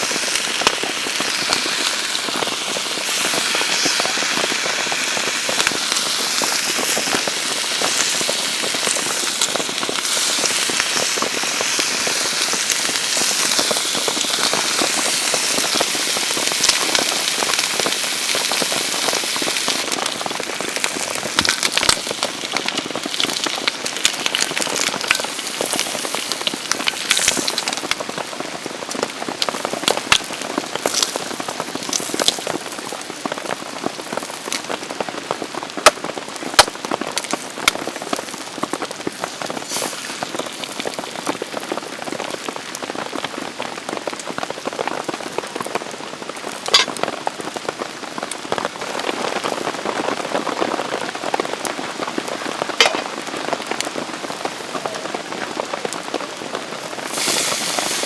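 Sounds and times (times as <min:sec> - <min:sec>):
rain drops ticking: 0:00.0 - 0:58.0.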